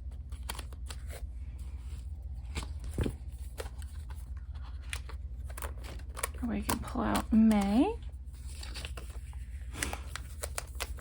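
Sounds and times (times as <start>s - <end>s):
paper pages clicking and rustling: 0.0s - 1.2s, 2.4s - 11.0s
low steady hum: 0.0s - 11.0s.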